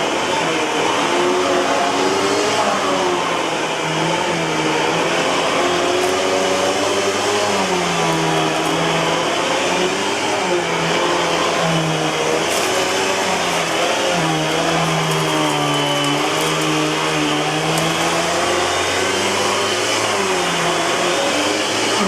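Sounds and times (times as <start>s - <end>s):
vacuum cleaner whining: 0.0s - 22.0s.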